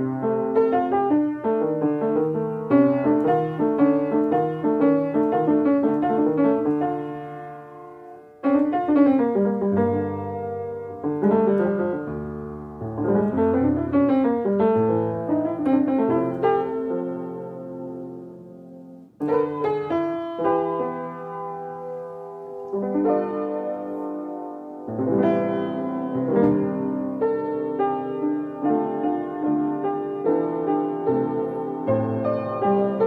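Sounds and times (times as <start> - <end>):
piano music: 0.0 - 33.0.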